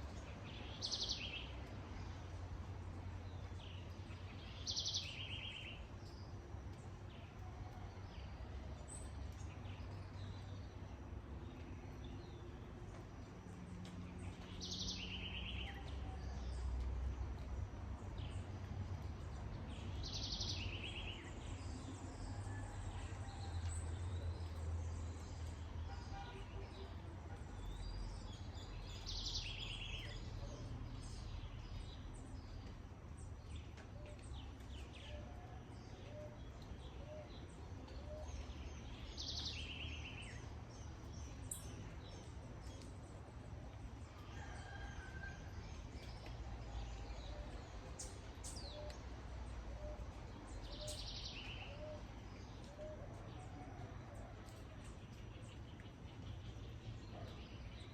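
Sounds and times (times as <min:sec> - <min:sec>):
rain: 0:00.0 - 0:57.9.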